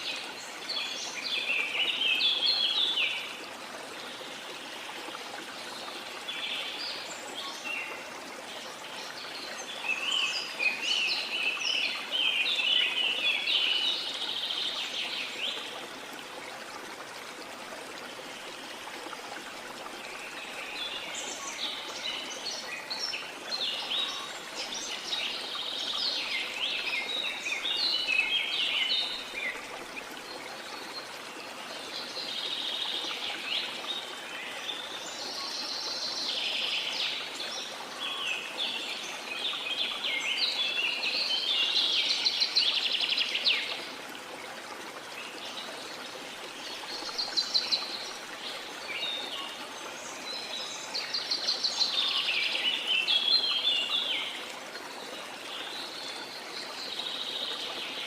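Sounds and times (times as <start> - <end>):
flowing stream: 0.0 - 58.0.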